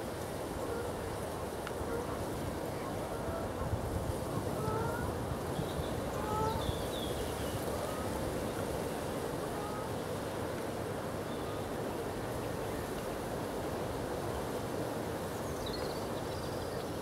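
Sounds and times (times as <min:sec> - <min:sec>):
outdoor background hiss and rumble: 0:00.0 - 0:17.0.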